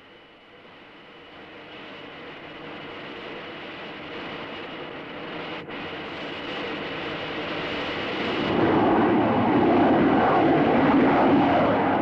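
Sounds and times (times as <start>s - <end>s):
aircraft roaring in flight: 0.0s - 12.0s.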